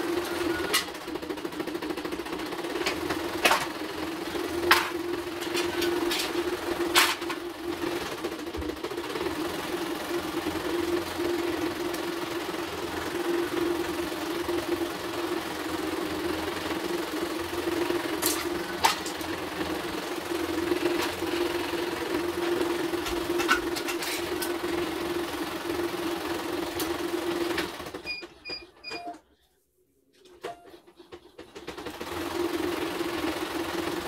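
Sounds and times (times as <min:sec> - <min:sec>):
embroidery machine motor hum: 0:00.0 - 0:28.0.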